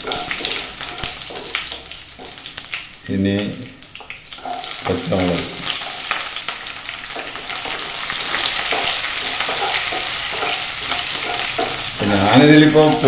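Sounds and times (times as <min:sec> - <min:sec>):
spatula stirring in a pan: 0:00.0 - 0:02.9, 0:04.0 - 0:13.0
hot oil sizzling in a pan: 0:00.0 - 0:13.0.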